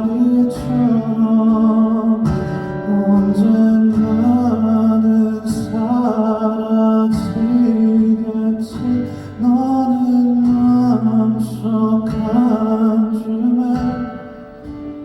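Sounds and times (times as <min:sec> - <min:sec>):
man singing a ballad: 0:00.0 - 0:15.0.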